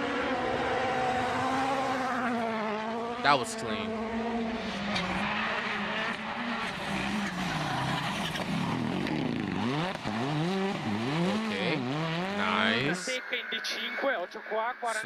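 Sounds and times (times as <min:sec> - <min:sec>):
rally car engine revving: 0:00.0 - 0:13.2.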